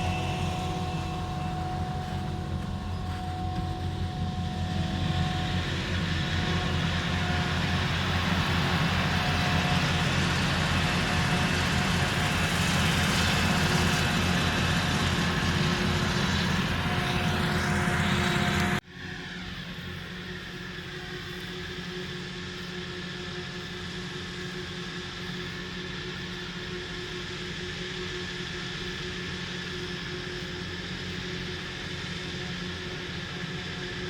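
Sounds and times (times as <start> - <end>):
harvester engine drone: 0.0 - 34.0
mechanical whine: 0.0 - 34.0.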